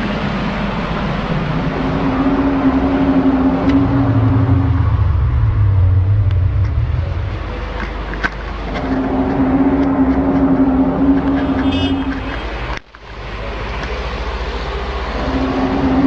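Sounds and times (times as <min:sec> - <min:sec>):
deep hum: 0:00.0 - 0:16.0
high-pitched drone: 0:00.0 - 0:16.0.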